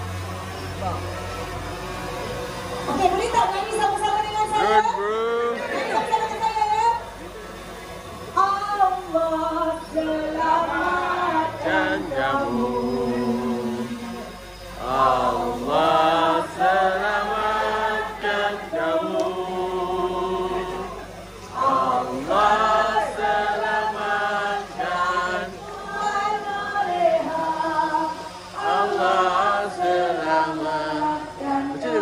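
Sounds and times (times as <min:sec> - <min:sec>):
voices singing in unison: 0:00.0 - 0:07.2, 0:08.2 - 0:32.0.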